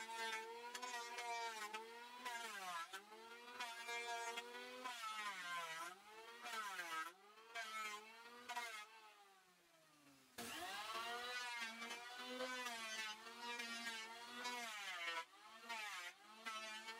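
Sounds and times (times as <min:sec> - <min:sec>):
small engine buzzing at high revs: 0:00.0 - 0:09.2, 0:10.4 - 0:16.9.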